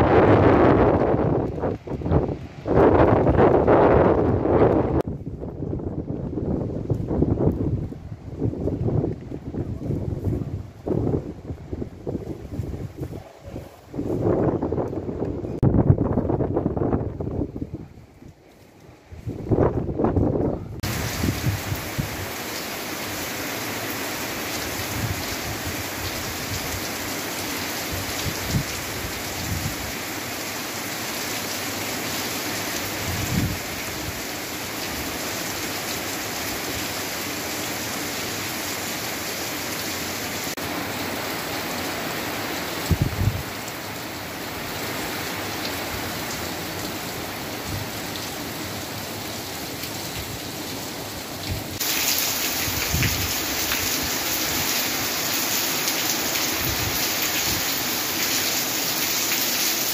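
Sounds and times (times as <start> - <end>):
heavy rain on a metal roof: 0.0 - 59.9.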